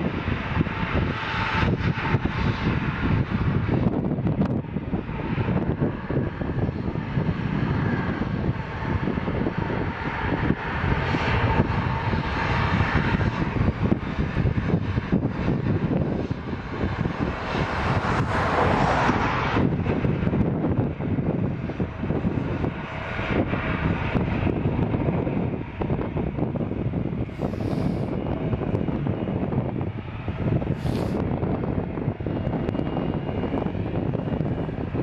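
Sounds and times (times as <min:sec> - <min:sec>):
jet engines at take-off: 0:00.0 - 0:35.0.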